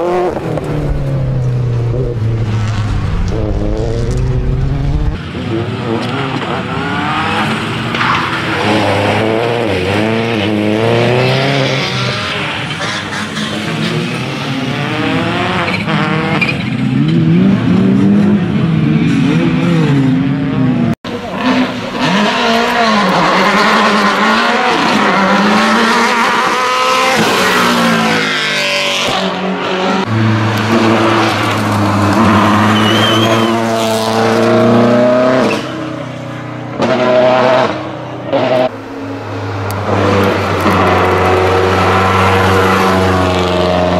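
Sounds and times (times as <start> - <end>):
rally car engine revving: 0.0 - 43.9.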